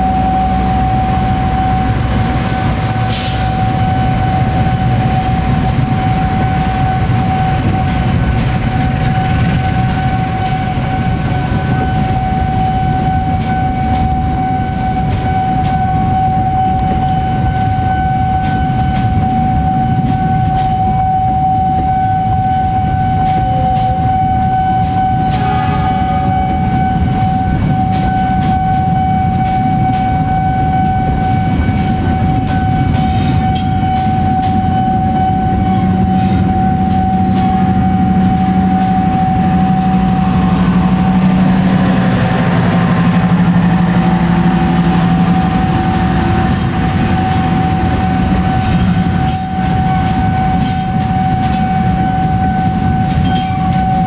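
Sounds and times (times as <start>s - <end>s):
steady high-pitched tone: 0.0s - 54.0s
train wheels rumbling on rails: 0.0s - 54.0s.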